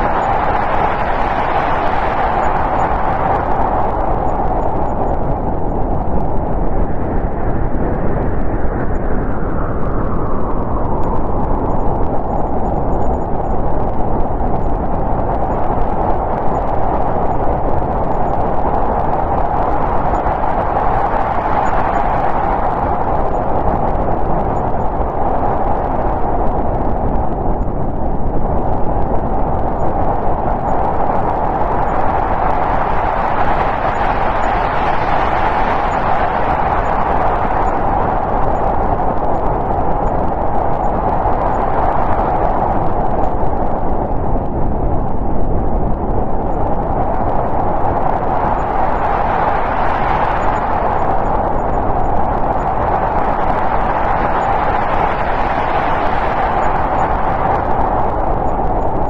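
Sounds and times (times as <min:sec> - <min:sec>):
snowstorm wind blowing: 0:00.0 - 0:59.0.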